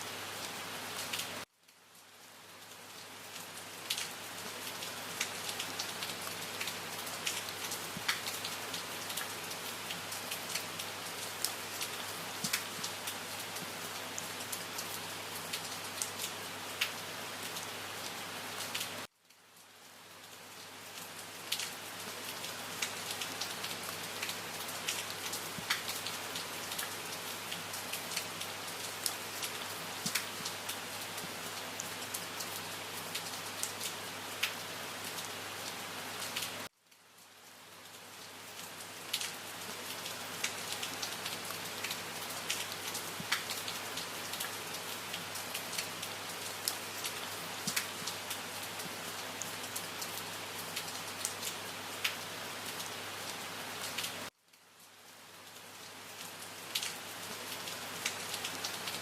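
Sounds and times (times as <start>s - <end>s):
rain drops ticking: 0.1s - 59.0s.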